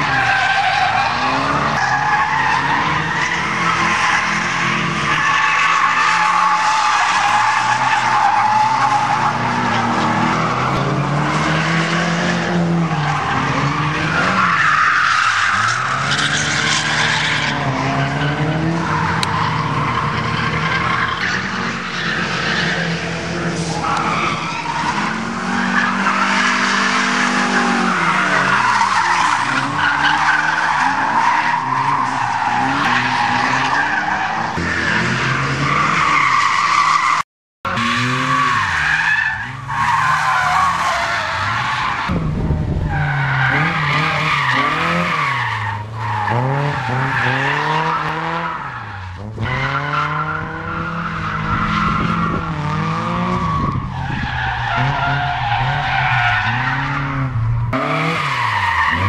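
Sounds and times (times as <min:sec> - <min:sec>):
car engines revving hard: 0:00.0 - 0:59.0
tyres squealing on asphalt: 0:00.0 - 0:59.0.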